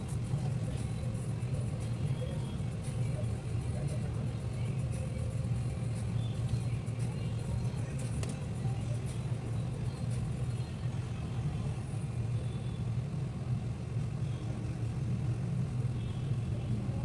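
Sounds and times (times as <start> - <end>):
low background hum and rumble: 0.0 - 17.0.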